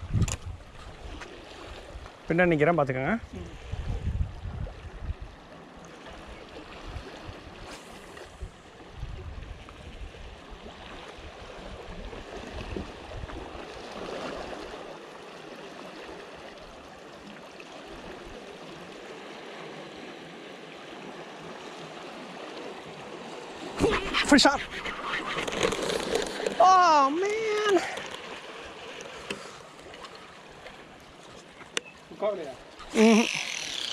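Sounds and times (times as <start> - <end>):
waves lapping against rocks: 3.5 - 33.9.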